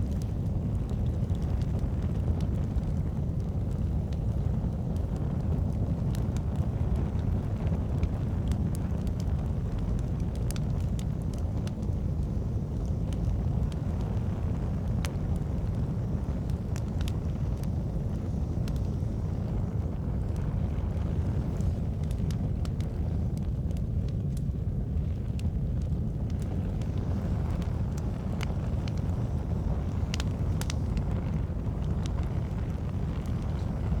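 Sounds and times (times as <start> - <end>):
burning logs popping: 0.0 - 34.0
campfire crackling: 0.0 - 34.0.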